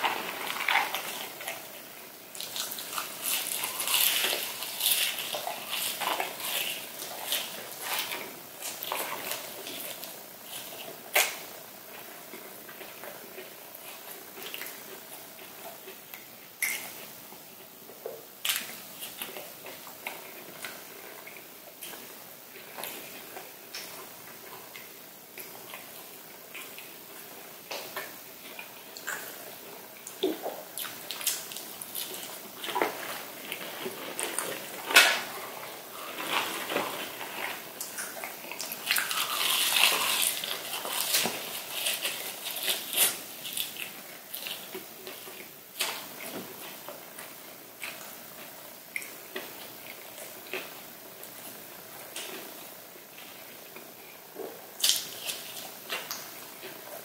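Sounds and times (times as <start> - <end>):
crunching and chewing: 0.0 - 17.1, 17.9 - 57.0.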